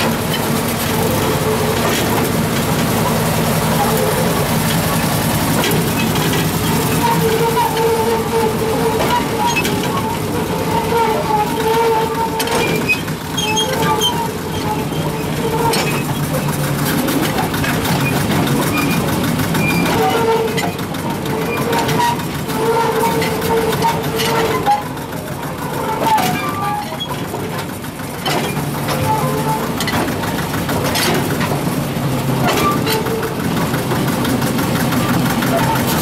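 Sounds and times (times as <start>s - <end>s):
locomotive engine drone: 0.0s - 36.0s.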